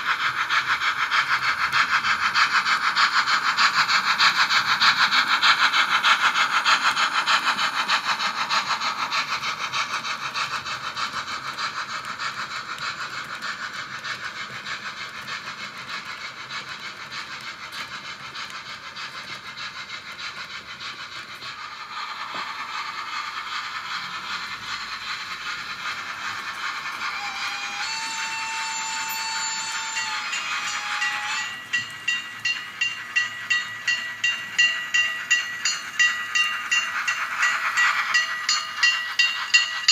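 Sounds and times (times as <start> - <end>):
model train clattering on metal track: 0.0 - 39.9.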